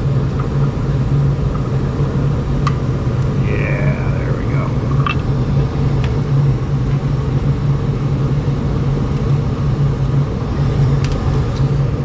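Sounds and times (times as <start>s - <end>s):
gas furnace rumbling: 0.0s - 12.0s.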